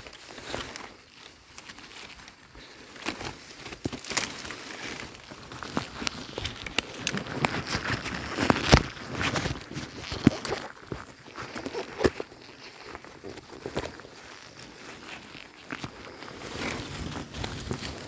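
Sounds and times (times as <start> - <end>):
dry leaves and twigs crackling: 0.0 - 18.0.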